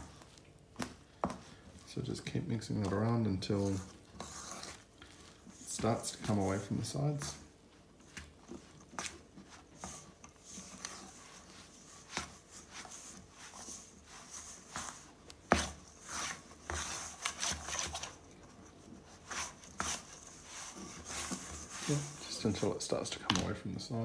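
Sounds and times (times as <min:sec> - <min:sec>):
hand kneading wet dough: 0:00.0 - 0:24.0.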